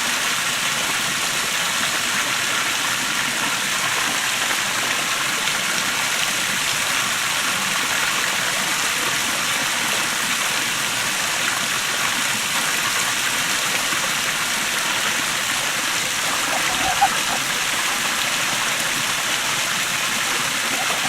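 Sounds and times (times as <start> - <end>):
small waterfall pouring and splashing: 0.0 - 21.0.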